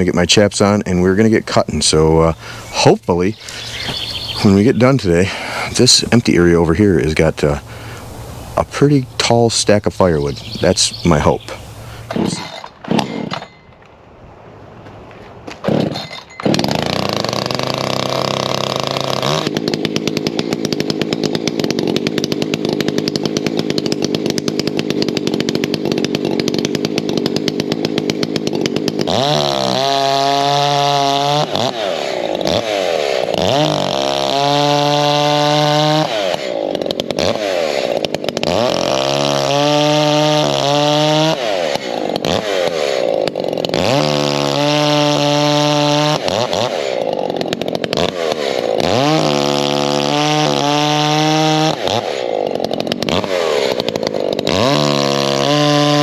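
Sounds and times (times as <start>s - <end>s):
chainsaw revving: 0.0s - 13.5s, 15.5s - 56.0s.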